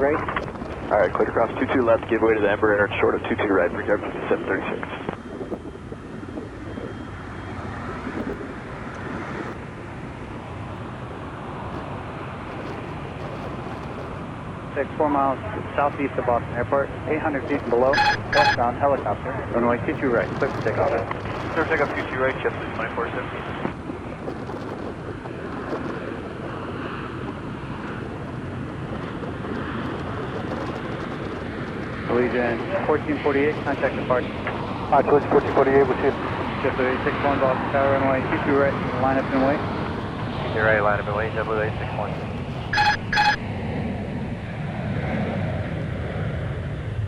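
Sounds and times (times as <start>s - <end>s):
jet airliner engine noise: 0.0s - 47.0s.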